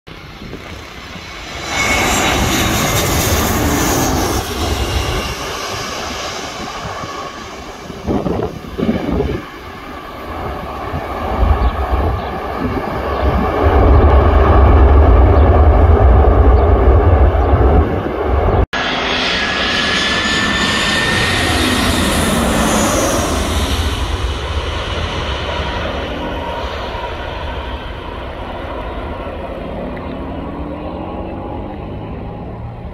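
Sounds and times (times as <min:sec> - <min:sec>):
jet engines reverse thrust rumble: 0:00.1 - 0:32.9
jet engines with high whine: 0:00.1 - 0:32.9.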